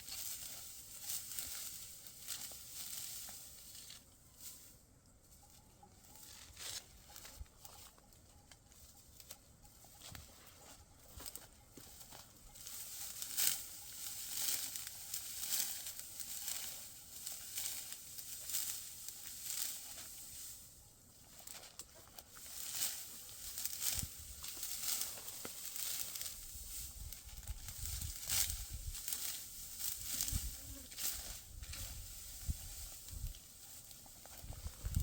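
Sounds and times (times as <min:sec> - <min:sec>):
dry wheat stalks rustling: 0:00.0 - 0:35.0.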